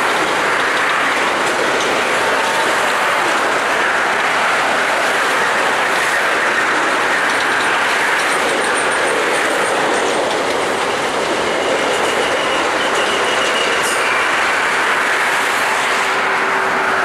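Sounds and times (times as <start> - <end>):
high wheel squeal: 0.0 - 17.0
highway traffic: 0.0 - 17.0
train wheels rolling on rails: 0.0 - 17.0.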